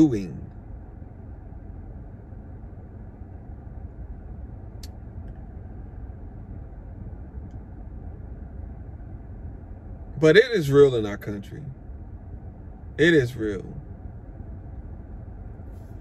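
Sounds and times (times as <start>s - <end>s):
car engine rumble from inside cabin: 0.0s - 16.0s.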